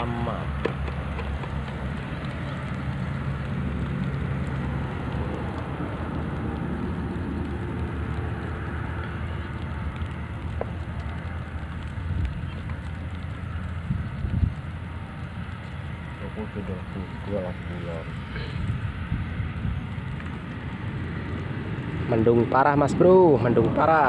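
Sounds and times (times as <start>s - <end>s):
drizzle pattering on water: 0.0s - 24.0s
traffic rumble: 0.0s - 24.0s.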